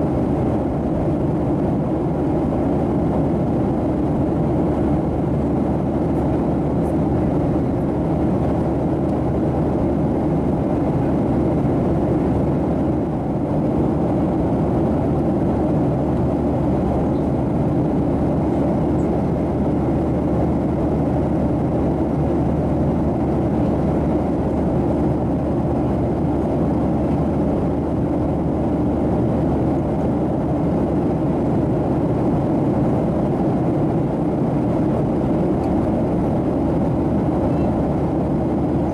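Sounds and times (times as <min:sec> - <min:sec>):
airplane cabin airflow rush: 0:00.0 - 0:38.9
jet engine noise: 0:00.0 - 0:38.9.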